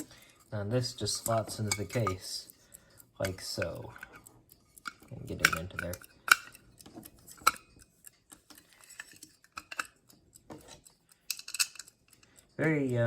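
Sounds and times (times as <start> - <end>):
clock movement clicking into case: 0.8 - 2.6, 3.2 - 13.0.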